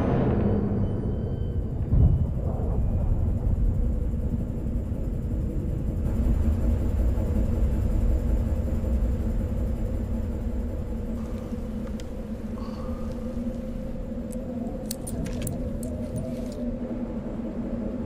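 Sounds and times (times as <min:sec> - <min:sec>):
deep steady rumble: 0:00.0 - 0:18.0
low hum: 0:00.0 - 0:18.0.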